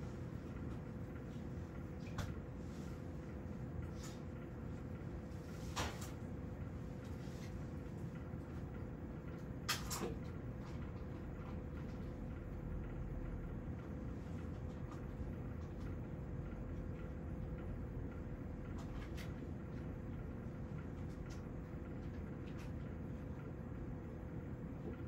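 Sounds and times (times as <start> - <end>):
faint constant hum: 0.0 - 25.0.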